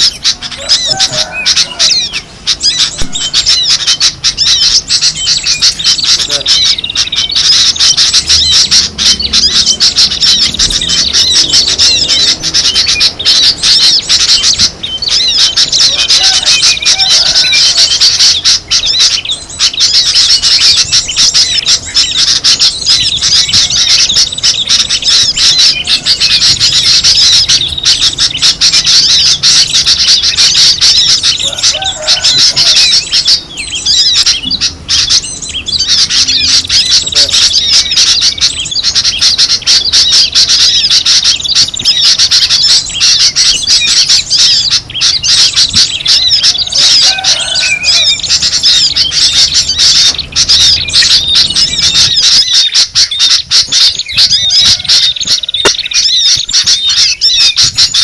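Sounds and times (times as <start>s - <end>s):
songbird flock chirping: 0.0s - 58.0s.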